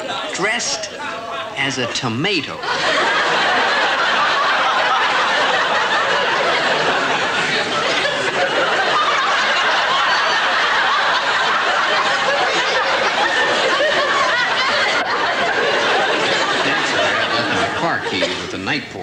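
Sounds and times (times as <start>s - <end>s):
audience laughing: 2.6s - 19.0s.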